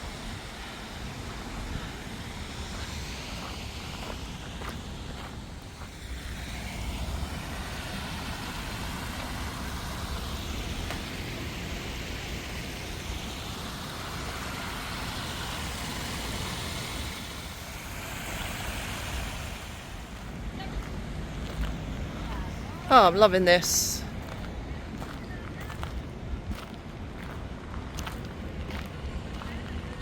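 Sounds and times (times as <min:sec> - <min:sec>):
low traffic rumble: 0:00.0 - 0:30.0
vehicles passing: 0:00.0 - 0:30.0.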